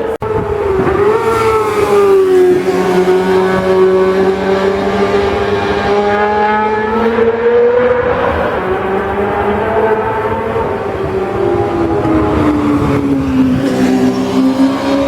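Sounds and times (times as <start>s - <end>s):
racing motorcycle engine revving: 0.2s - 15.0s.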